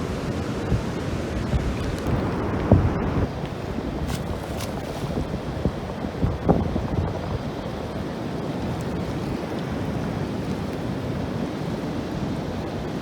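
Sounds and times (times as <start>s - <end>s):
river rushing into sea: 0.0s - 13.0s
wind buffeting microphone: 0.0s - 13.0s.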